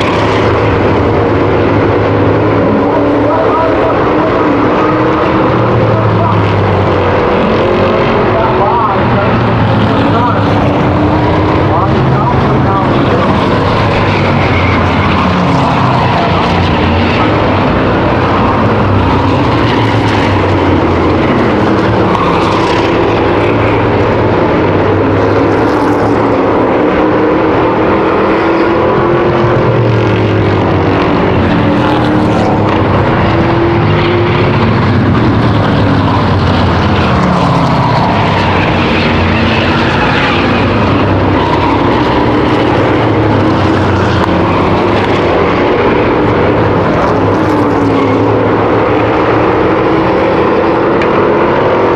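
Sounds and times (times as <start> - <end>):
racing car engines: 0.0 - 51.9.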